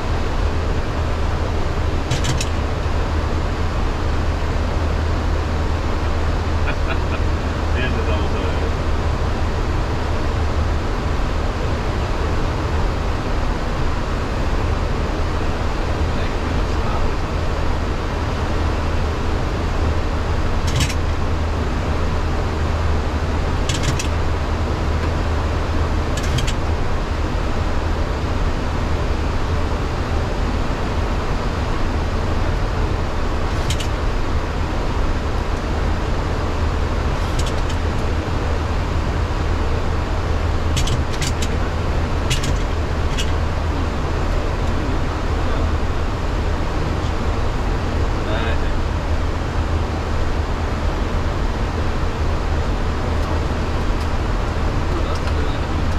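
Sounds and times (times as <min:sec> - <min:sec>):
airflow and engine noise: 0:00.0 - 0:55.9
low hum: 0:00.0 - 0:55.9.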